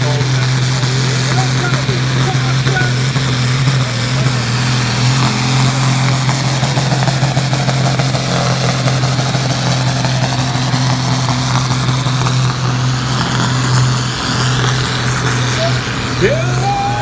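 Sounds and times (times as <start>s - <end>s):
loud engine drone: 0.0s - 17.0s.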